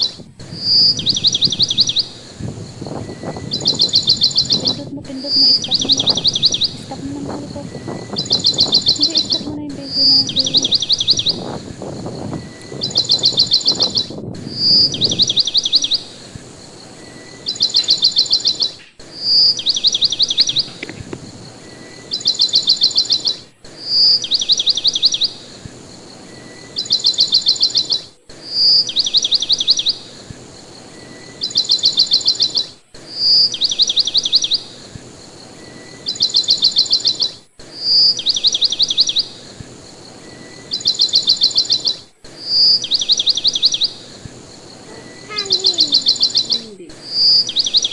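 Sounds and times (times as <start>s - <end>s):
bird song with trills: 0.0s - 47.9s.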